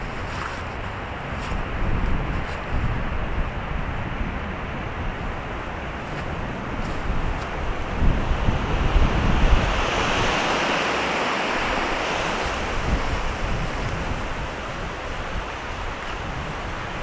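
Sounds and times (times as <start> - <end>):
strong wind rushing through trees: 0.0 - 17.0
wind buffeting microphone: 0.0 - 17.0.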